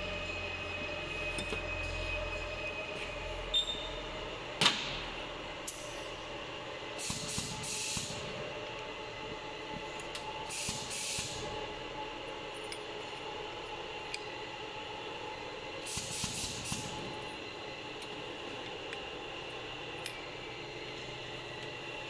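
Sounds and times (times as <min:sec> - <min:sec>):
workshop machinery humming: 0:00.0 - 0:22.0.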